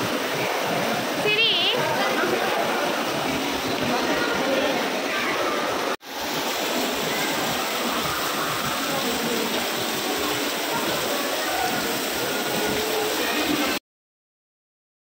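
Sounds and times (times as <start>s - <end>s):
water pouring down waterfall: 0.0s - 13.8s.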